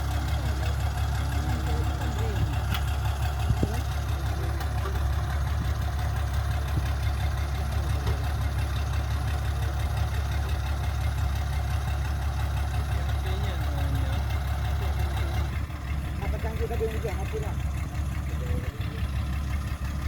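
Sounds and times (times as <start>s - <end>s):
excavator diesel engine idling: 0.0s - 20.0s.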